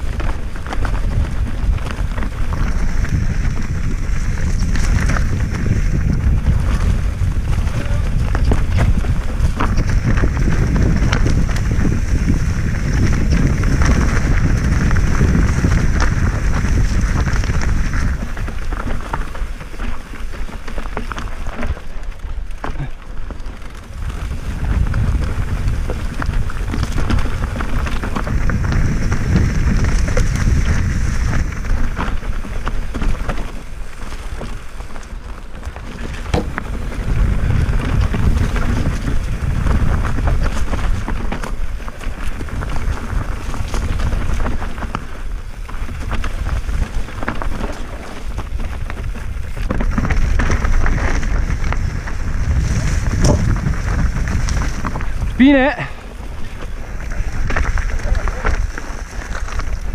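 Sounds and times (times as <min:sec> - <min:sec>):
bike chain and frame rattling: 0:00.0 - 0:59.9
tyres crunching over dirt: 0:00.0 - 0:59.9
wind rumbling on microphone: 0:00.0 - 0:59.9.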